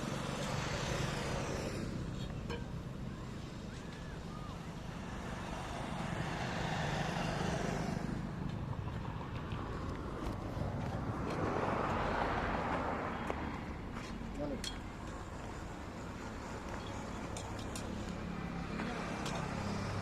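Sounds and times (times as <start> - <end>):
road traffic rumble: 0.0 - 20.0
vehicles passing: 0.0 - 20.0.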